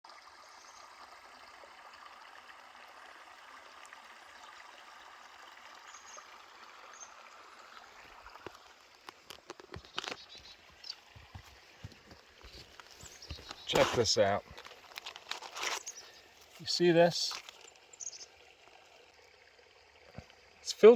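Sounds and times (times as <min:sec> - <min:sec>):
flowing stream water: 0:00.0 - 0:20.9.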